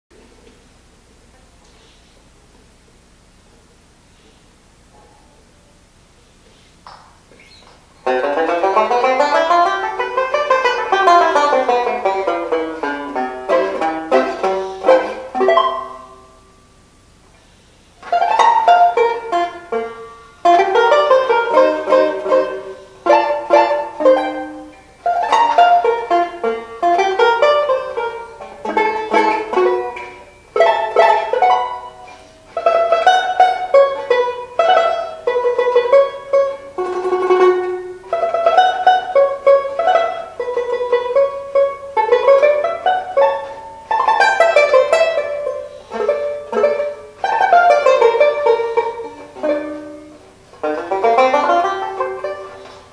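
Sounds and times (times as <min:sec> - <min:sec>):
banjo picked melody: 0:08.0 - 0:16.6, 0:18.0 - 0:52.9.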